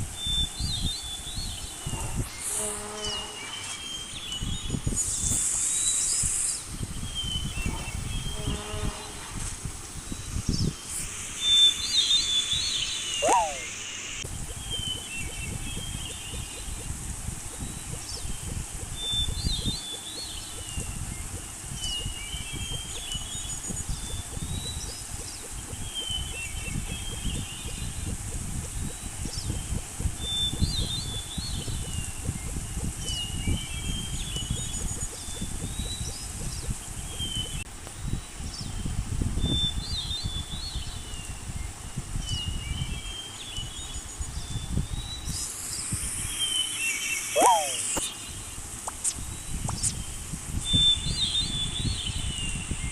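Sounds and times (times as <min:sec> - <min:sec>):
high hiss: 0:00.0 - 0:37.9, 0:43.4 - 0:52.8
birds chirping and trilling: 0:00.0 - 0:52.9.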